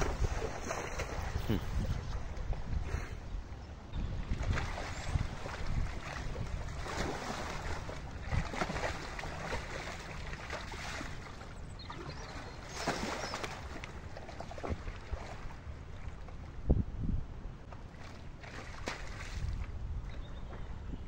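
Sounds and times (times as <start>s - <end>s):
mud sloshing and splashing: 0.0s - 3.0s, 4.1s - 16.4s, 17.7s - 19.8s
wind on microphone: 0.0s - 13.8s, 14.6s - 17.6s, 18.6s - 21.0s.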